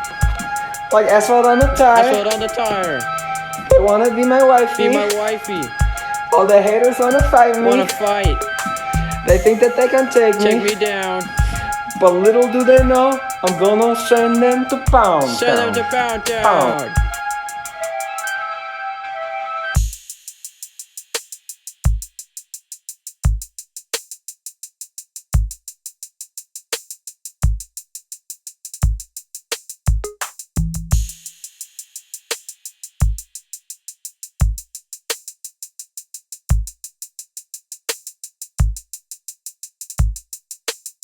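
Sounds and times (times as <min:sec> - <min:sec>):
hip hop drum machine beat: 0:00.0 - 0:18.4, 0:19.8 - 0:41.0.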